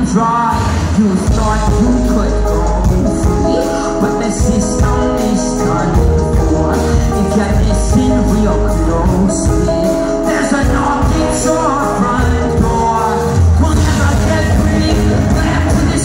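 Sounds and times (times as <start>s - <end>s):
live rock band playing: 0.0s - 16.0s
male lead vocal singing: 0.0s - 16.0s.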